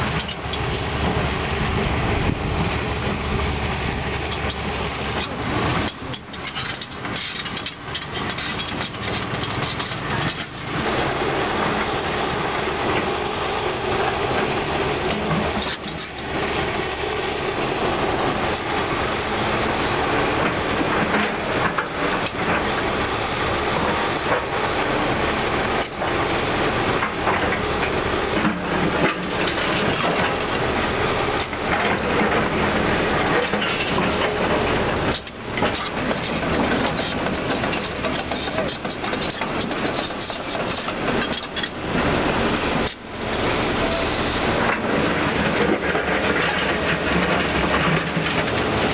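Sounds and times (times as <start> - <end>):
excavator diesel engine working: 0.0 - 48.9.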